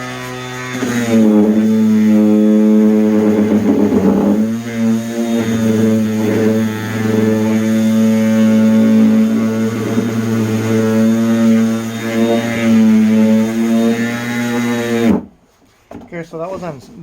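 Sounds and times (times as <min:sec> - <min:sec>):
orbital sander droning on wood: 0:00.0 - 0:15.3.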